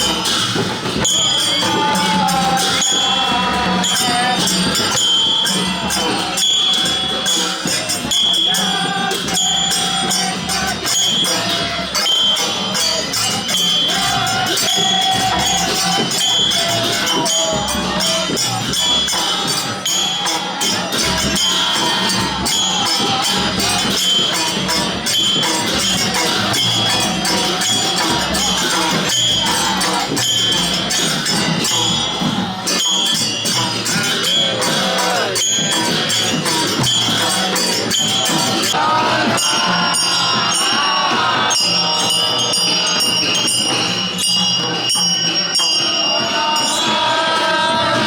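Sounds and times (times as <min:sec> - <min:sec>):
metal percussion jingling and clashing: 0:00.0 - 0:48.0.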